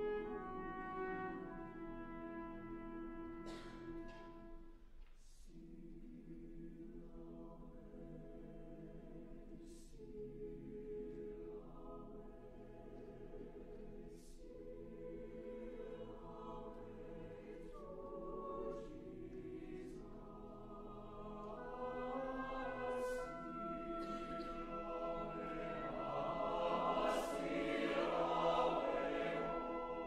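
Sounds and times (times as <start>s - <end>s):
mixed choir singing: 5.6s - 30.0s.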